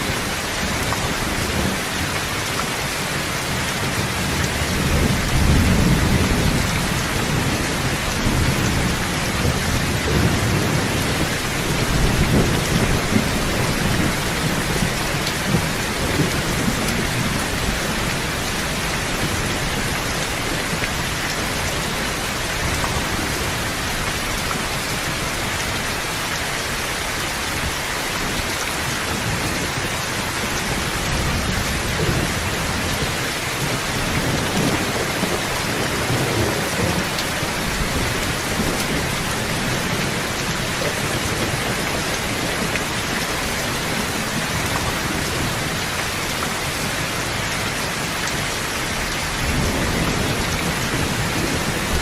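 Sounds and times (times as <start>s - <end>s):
steady rain pouring: 0.0s - 52.0s
low rolling thunder: 3.4s - 25.8s, 29.0s - 45.9s, 49.0s - 52.0s.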